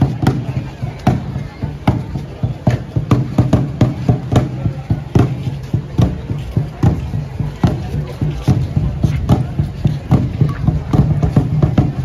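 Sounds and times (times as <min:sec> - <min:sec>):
crowd chatter: 0:00.0 - 0:12.0
drums beaten in steady rhythm: 0:00.0 - 0:12.0.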